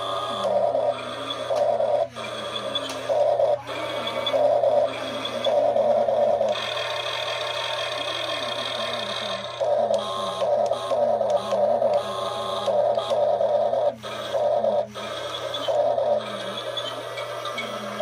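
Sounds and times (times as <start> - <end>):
toy excavator electric motors: 0.0 - 18.0.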